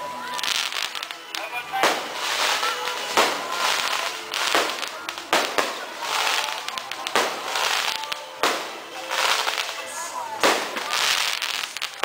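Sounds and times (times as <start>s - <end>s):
fireworks bangs: 0.0s - 12.0s
hissing crackling firework tail: 0.0s - 12.0s.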